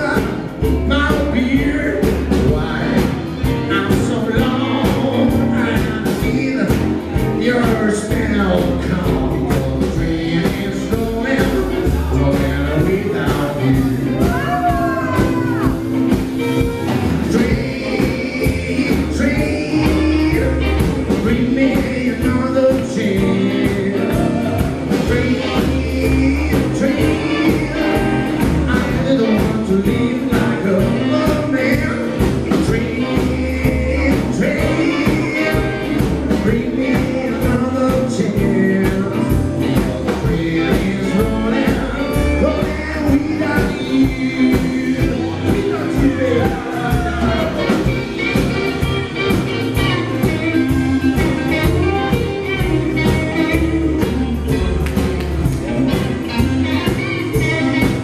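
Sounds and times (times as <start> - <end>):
electric guitars: 0.0 - 58.0
man singing: 0.0 - 58.0
rock and roll band playing: 0.0 - 58.0
steady drum beat: 0.0 - 58.0
upright bass: 0.0 - 58.0.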